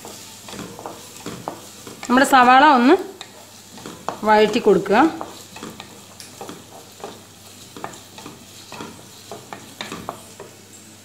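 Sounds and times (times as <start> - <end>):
wooden spatula scraping a frying pan: 0.0 - 10.6
onions sizzling in oil: 0.0 - 11.0.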